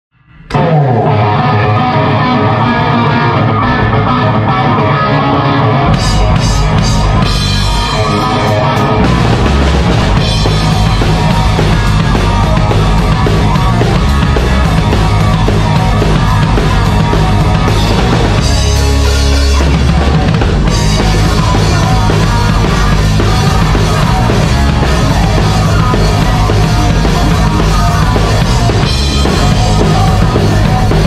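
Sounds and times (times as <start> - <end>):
electric guitar riff: 0.2 - 31.0
drum kit: 0.5 - 31.0
heavy metal band playing: 0.5 - 31.0.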